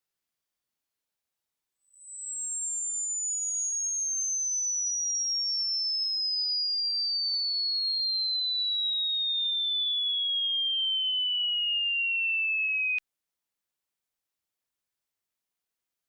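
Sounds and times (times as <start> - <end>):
sine tone sweeping downward: 0.0 - 13.0.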